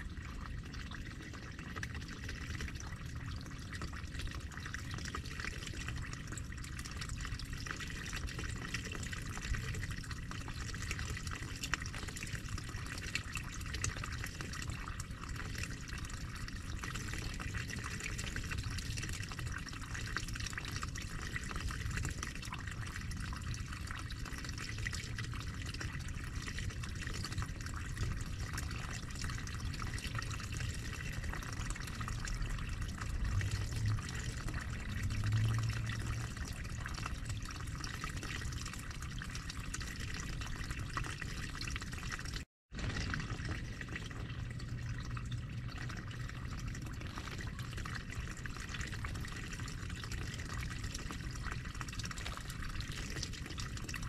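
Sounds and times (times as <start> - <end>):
water running in a stream: 0.0 - 54.0.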